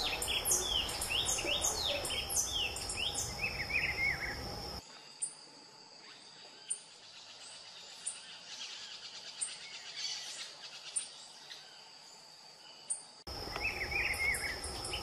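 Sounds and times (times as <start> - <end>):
insects: 0.0 - 15.0.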